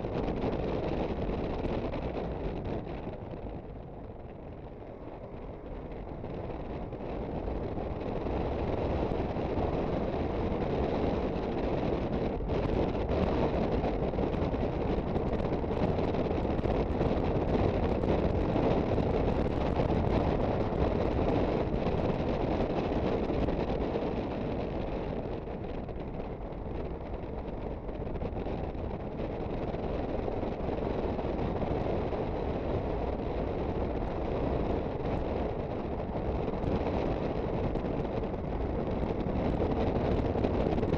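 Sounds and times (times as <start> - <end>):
wind buffeting the microphone: 0.0 - 40.9.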